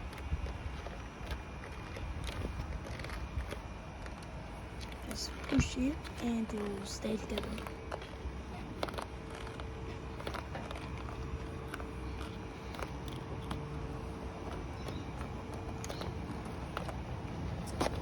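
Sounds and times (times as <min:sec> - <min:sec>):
faint constant tone: 0:00.0 - 0:18.0
steady low hum: 0:00.0 - 0:18.0.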